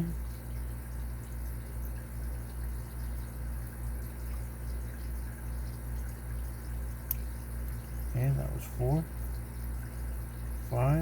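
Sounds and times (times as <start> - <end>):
low pulsing machine hum: 0.0 - 11.0.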